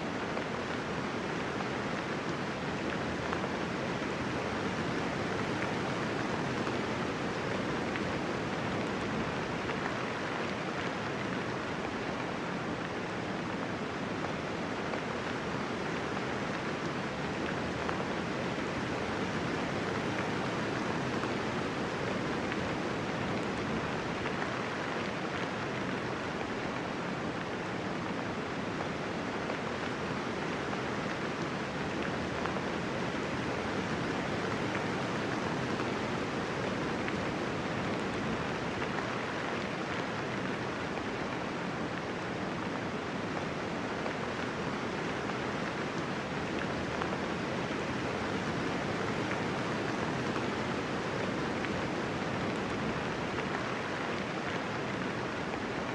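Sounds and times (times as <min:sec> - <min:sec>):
light rain falling: 0:00.0 - 0:55.9.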